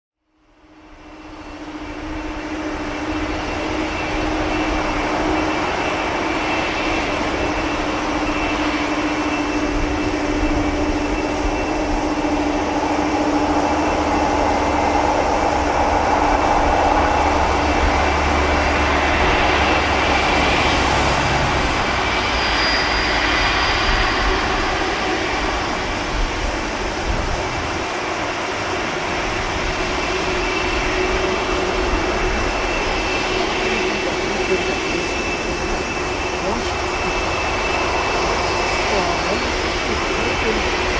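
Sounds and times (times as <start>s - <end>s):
jet engines at takeoff power: 0.2s - 40.9s.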